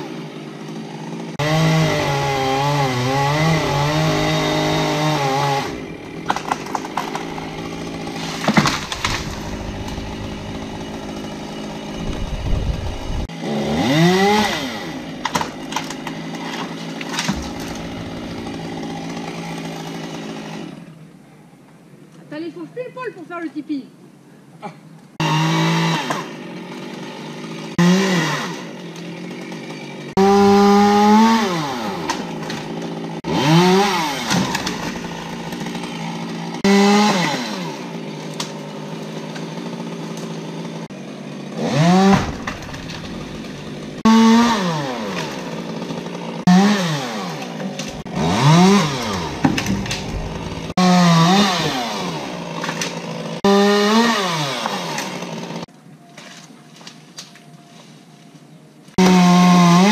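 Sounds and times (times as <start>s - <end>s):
chainsaw revving and idling: 0.0s - 21.0s, 25.2s - 55.7s, 58.9s - 59.9s.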